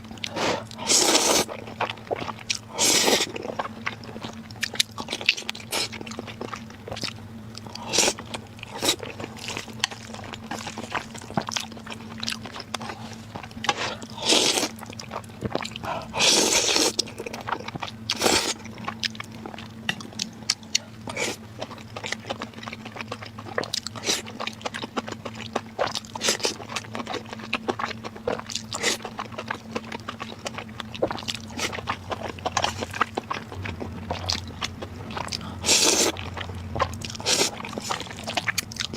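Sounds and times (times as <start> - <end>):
crunchy chewing and biting: 0.0 - 38.9
faint steady hum: 0.0 - 38.9.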